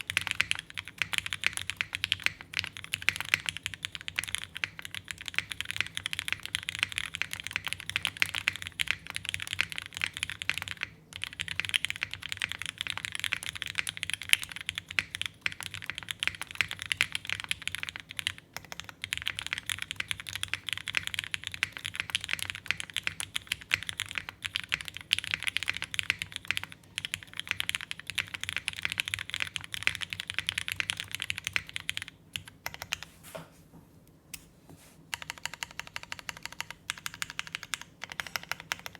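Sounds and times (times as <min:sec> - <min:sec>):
mechanical keyboard typing: 0:00.0 - 0:33.1, 0:35.1 - 0:38.9.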